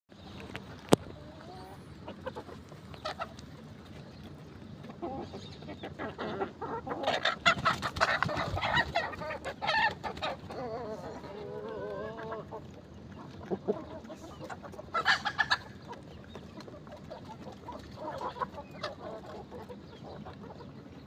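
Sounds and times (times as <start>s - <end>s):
chickens clucking: 0.1s - 21.0s.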